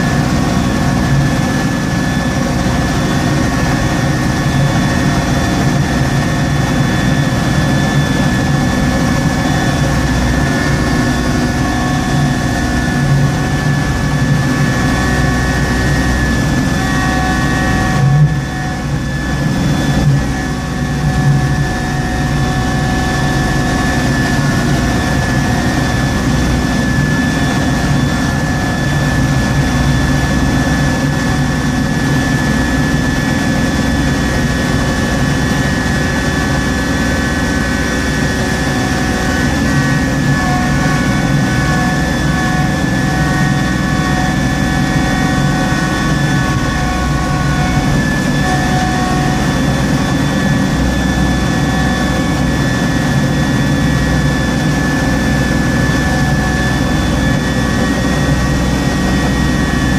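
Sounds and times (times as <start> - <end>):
snowblower high whine: 0.0 - 59.9
tractor engine drone: 0.0 - 59.9.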